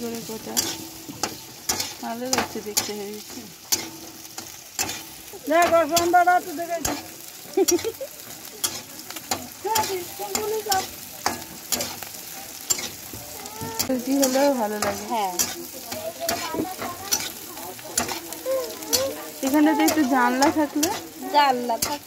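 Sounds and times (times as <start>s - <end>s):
onions sizzling in hot oil: 0.0s - 22.0s
spatula scraping pan: 0.0s - 22.0s.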